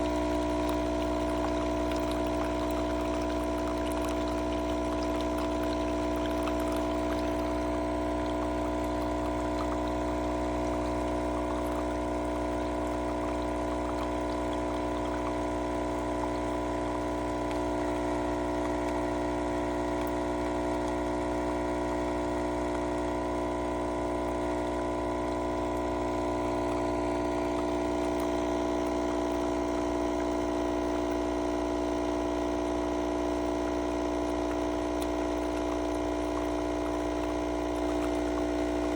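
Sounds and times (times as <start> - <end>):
coffee pouring into cup: 0.0 - 38.9
espresso maker pump humming: 0.0 - 38.9.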